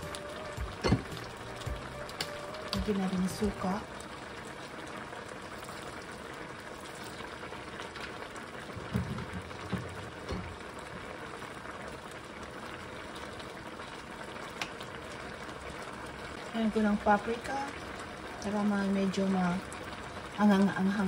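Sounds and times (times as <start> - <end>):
sauce bubbling in a frying pan: 0.0 - 21.0.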